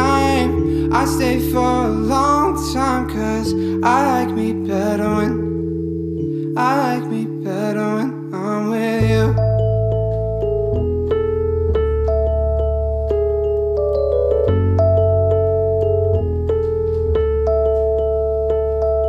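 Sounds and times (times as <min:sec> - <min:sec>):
steady bass: 0:00.0 - 0:07.2, 0:09.0 - 0:19.0
electric piano chords: 0:00.0 - 0:19.0
instrumental pop music: 0:00.0 - 0:19.0.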